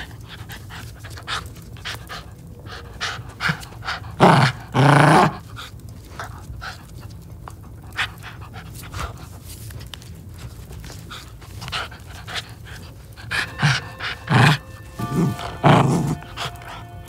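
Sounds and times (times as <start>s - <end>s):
puppy panting: 0.0s - 4.7s, 5.3s - 17.0s.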